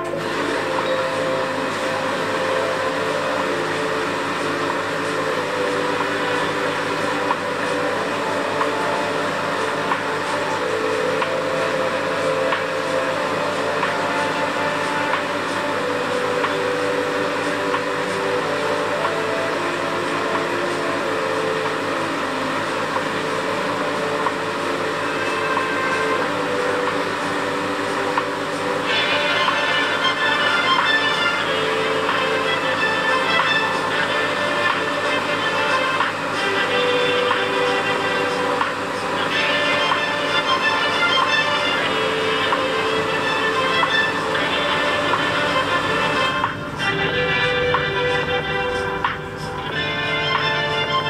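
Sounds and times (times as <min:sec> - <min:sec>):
aquarium pump humming: 0:00.0 - 0:51.0.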